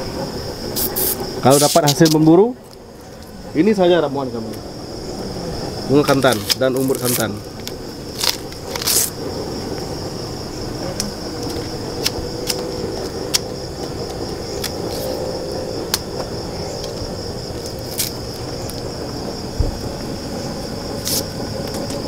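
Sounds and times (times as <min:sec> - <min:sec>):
crickets trilling: 0:00.0 - 0:22.0
low steady rumble: 0:02.5 - 0:22.0.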